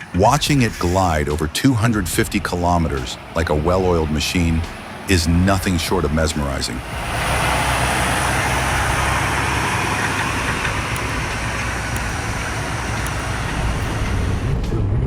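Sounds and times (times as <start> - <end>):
truck engine drone: 0.0 - 15.0
tyre and road noise: 0.0 - 15.0.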